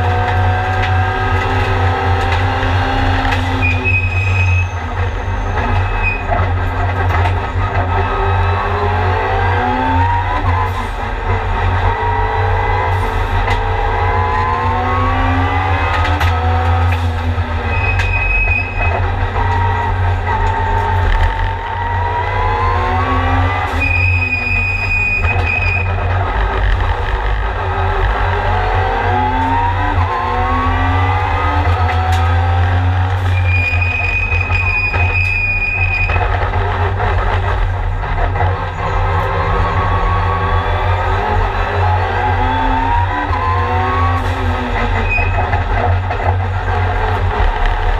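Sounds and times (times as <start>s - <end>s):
race car engine accelerating: 0.0s - 47.9s
road and wind noise: 0.0s - 47.9s.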